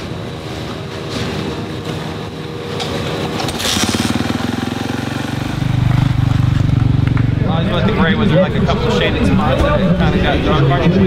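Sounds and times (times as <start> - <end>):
motocross bike engine running: 0.0 - 10.3.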